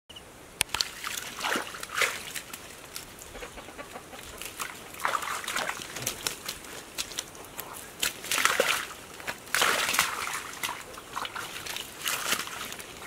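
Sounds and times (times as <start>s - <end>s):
hands splashing in wet mud: 0.7s - 3.3s, 4.2s - 13.0s.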